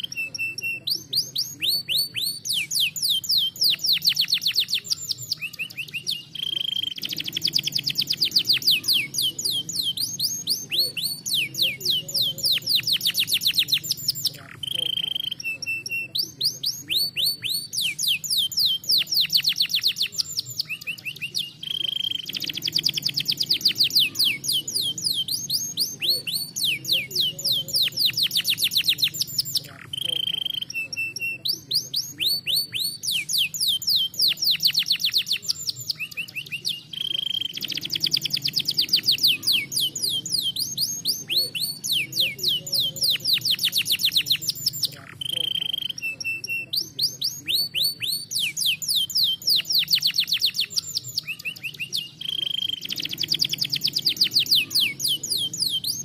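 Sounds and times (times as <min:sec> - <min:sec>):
canary held whistle: 0:00.0 - 0:56.0
canary trilling: 0:00.0 - 0:56.0.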